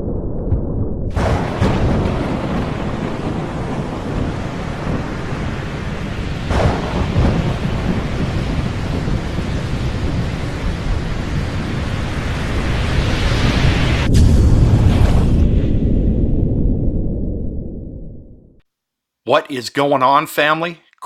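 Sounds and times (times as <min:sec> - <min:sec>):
sharp thunder crack: 0:00.0 - 0:17.9
thunder rumbling: 0:00.0 - 0:18.4.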